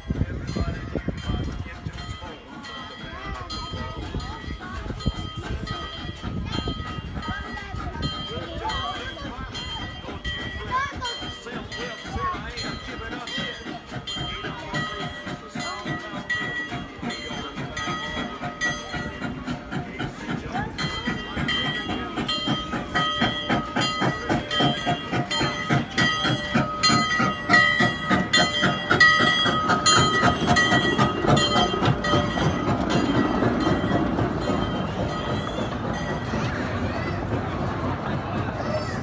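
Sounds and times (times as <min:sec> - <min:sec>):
steady ringing tones: 0:00.0 - 0:39.0
train wheels clicking over rails: 0:00.0 - 0:39.0.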